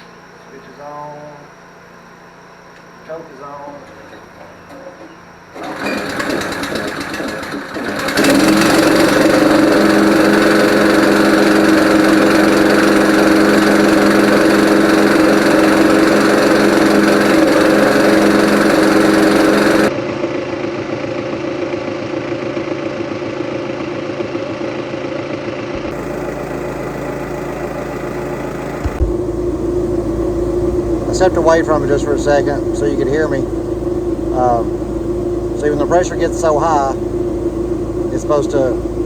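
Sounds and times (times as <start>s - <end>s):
air compressor pump: 3.6s - 23.6s, 25.6s - 39.0s
small gas engine running: 5.6s - 39.0s.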